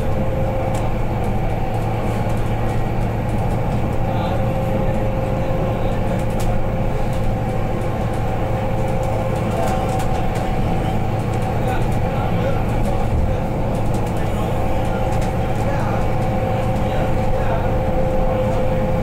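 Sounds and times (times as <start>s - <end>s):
road and tyre rumble: 0.0s - 19.0s.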